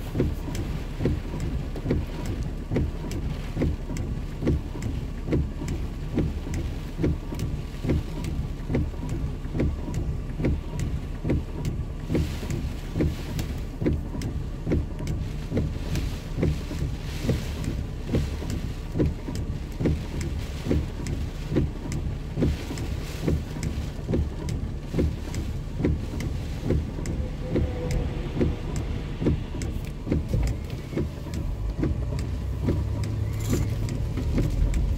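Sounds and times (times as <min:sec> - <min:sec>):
heavy rain pelting a vehicle: 0:00.0 - 0:34.9
vehicle rumble: 0:00.0 - 0:34.9
wind: 0:00.0 - 0:34.9.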